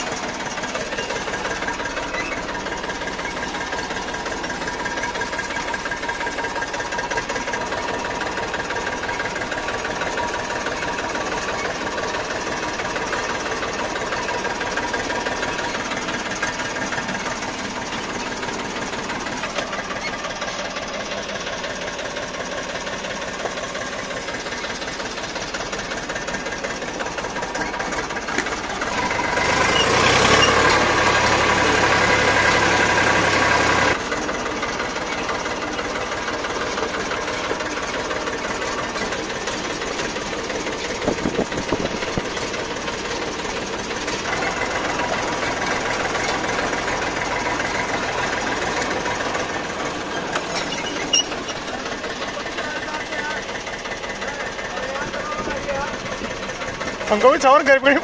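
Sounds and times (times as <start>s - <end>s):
tractor diesel engine clattering: 0.0s - 58.0s.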